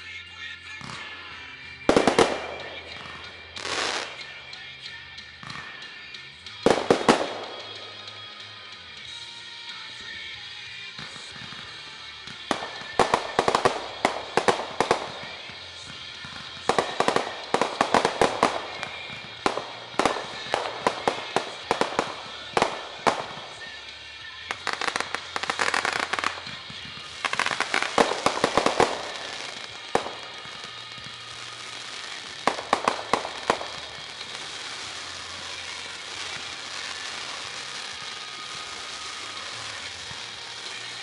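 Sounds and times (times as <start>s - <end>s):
fireworks cracking and popping: 0.0s - 41.0s.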